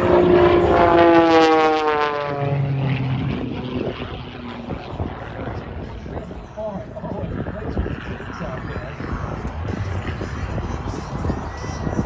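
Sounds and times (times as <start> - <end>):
propeller plane passing by: 0.0 - 12.0.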